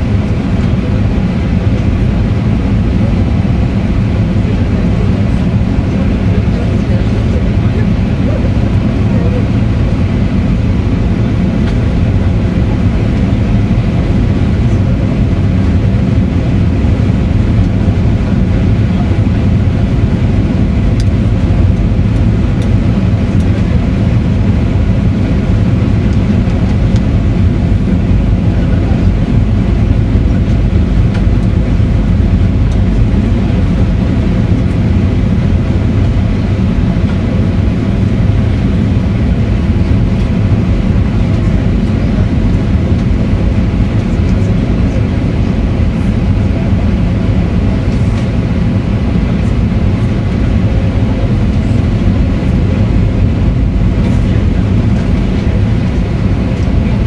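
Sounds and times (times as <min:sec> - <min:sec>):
jet engine drone in cabin: 0:00.0 - 0:57.0
rushing airflow: 0:00.0 - 0:57.0.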